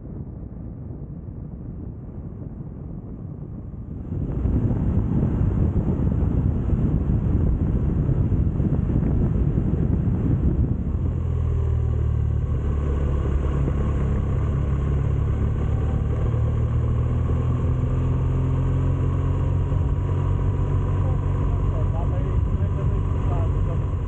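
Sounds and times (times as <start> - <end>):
wind over microphone: 0.0 - 24.0
motorcycle engine running: 4.0 - 24.0.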